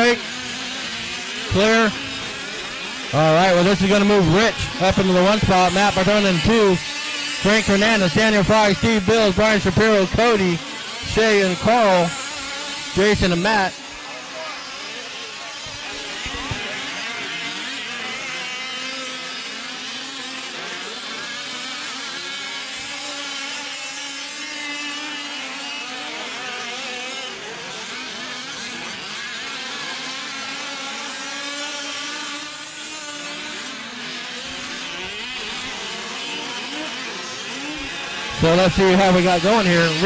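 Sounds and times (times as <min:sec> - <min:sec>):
small engines buzzing and revving: 0:00.0 - 0:40.0.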